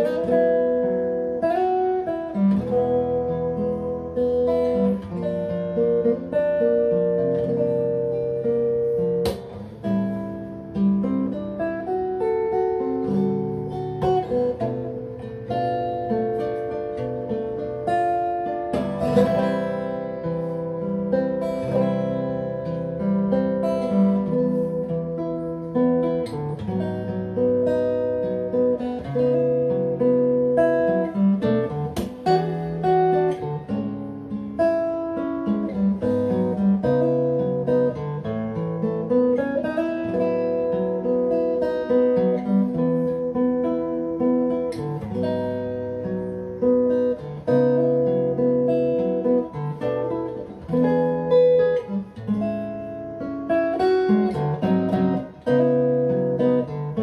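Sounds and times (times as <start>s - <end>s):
solo acoustic guitar: 0.0s - 57.0s.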